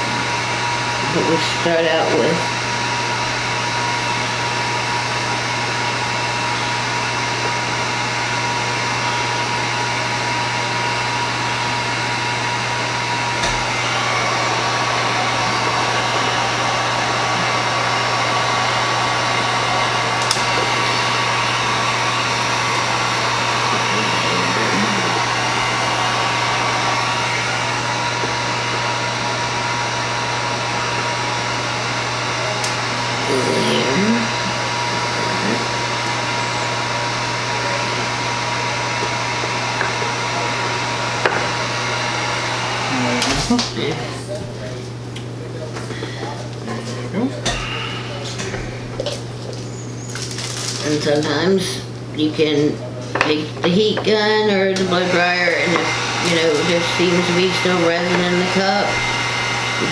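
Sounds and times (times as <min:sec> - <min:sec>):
heat gun blowing air: 0:00.0 - 0:43.6, 0:47.5 - 0:49.0, 0:54.9 - 0:59.9.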